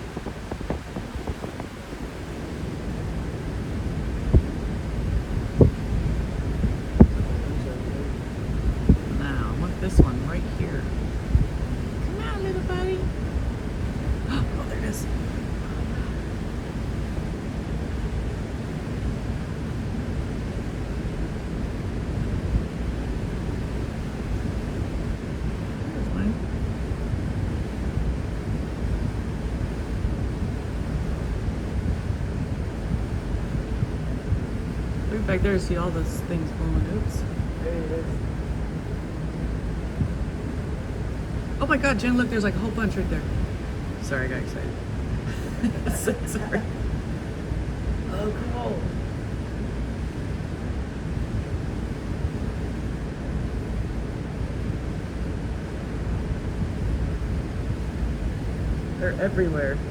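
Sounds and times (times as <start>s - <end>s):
boat noise: 0.0s - 59.9s
low rumble of open water: 0.0s - 59.9s
wind buffeting microphone: 0.0s - 59.9s.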